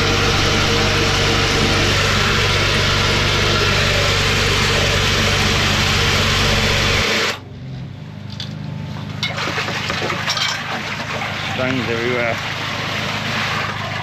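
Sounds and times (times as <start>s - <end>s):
suction pump roaring: 0.0s - 7.4s, 9.2s - 14.0s
engine hum: 0.0s - 14.0s.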